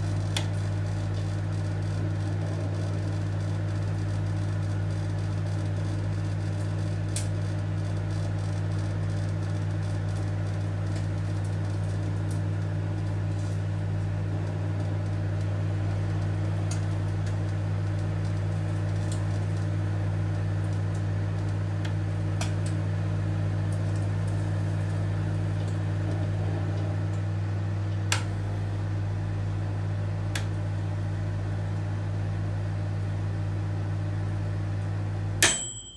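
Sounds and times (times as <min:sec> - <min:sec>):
microwave oven humming: 0:00.0 - 0:35.9.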